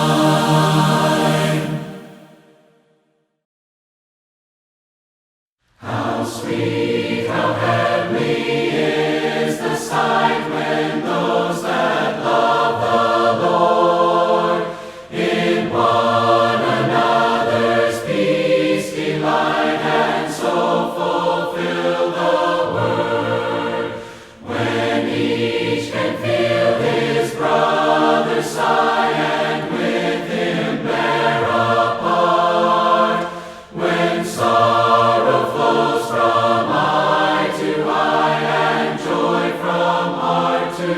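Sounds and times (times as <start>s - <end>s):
group singing a hymn a cappella: 0.0s - 2.4s, 5.8s - 40.9s.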